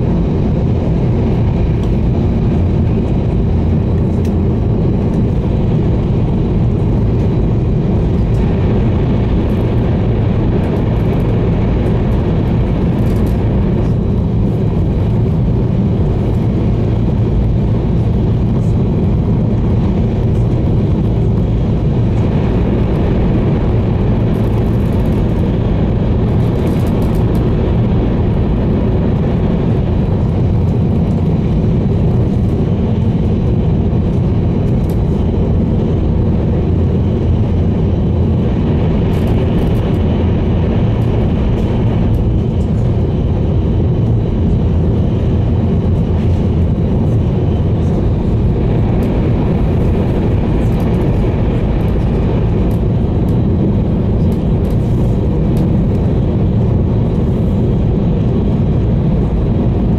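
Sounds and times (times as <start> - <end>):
train rumble inside cabin: 0.0 - 59.9.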